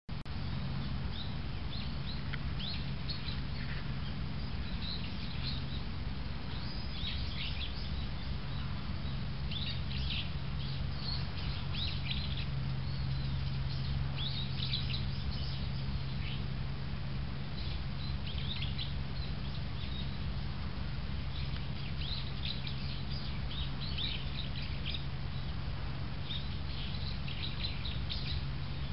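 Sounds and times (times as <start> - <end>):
low hum: 0.1 - 28.9
songbirds chirping: 0.1 - 28.9.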